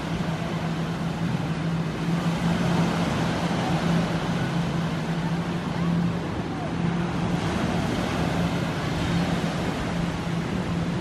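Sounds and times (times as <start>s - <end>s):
low engine hum: 0.0s - 11.0s
surf rushing: 0.0s - 11.0s
wind: 0.0s - 11.0s.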